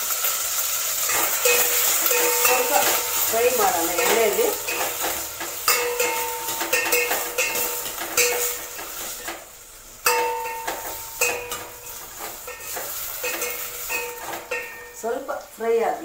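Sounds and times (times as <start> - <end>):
faint sizzle of frying: 0.0 - 16.0
metal spoon knocking steel pot: 1.1 - 9.0, 10.0 - 15.0.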